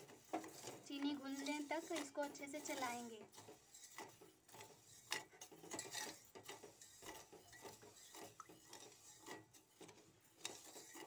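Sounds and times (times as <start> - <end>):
spoon scraping a metal pot: 0.0 - 11.0.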